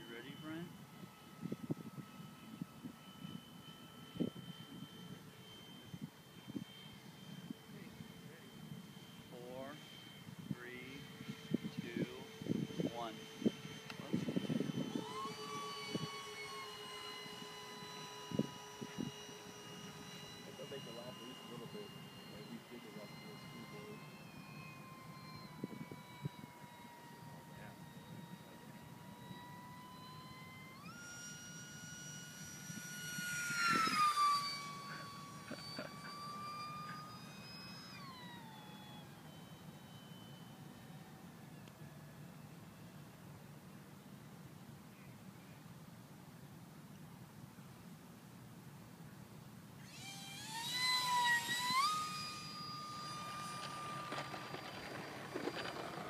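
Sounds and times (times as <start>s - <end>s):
model plane motor whine: 0.0s - 56.0s.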